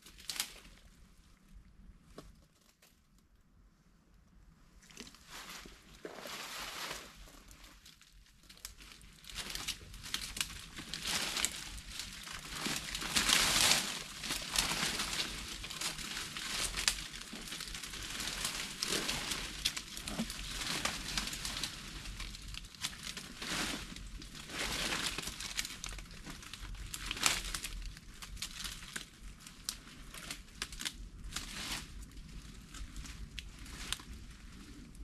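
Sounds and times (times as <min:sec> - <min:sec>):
leaves and twigs rustling: 0:00.0 - 0:03.0, 0:04.8 - 0:35.0.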